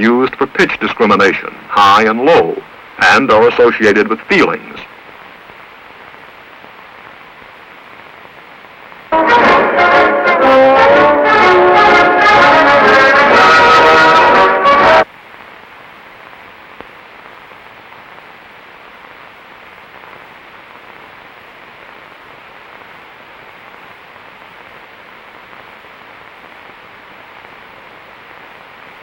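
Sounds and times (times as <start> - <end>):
film soundtrack hiss: 0.0 - 29.0.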